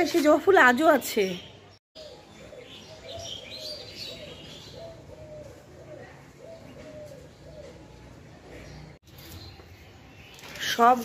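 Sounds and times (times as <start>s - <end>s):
birds chirping: 0.0s - 11.0s
birds calling low notes: 1.0s - 10.6s.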